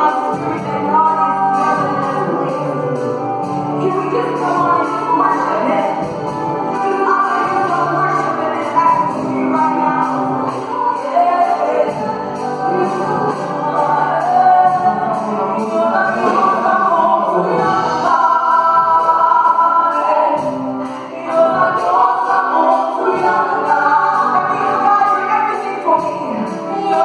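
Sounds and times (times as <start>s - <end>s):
group singing gospel: 0.0s - 27.0s
keyboard: 0.0s - 27.0s.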